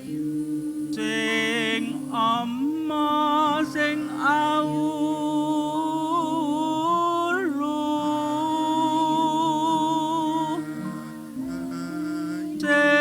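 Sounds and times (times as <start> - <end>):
low sustained tones: 0.0 - 13.0
person chanting: 0.0 - 13.0.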